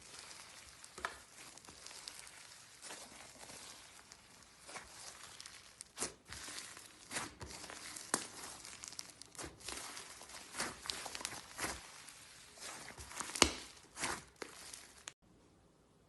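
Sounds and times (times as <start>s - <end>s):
slime crackling and popping: 0.0s - 15.2s.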